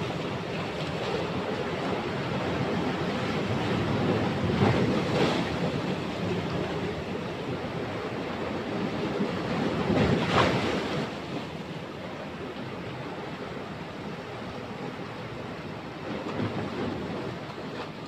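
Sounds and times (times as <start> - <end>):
sea surf breaking on rocks: 0.0 - 18.0.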